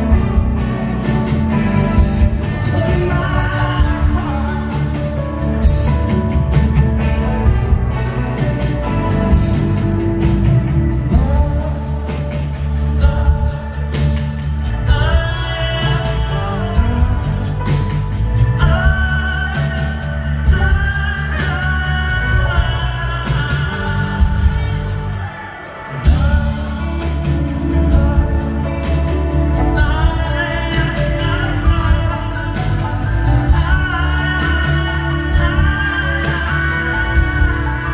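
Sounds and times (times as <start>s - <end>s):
live rock band playing: 0.0s - 37.9s
man singing: 0.0s - 37.9s.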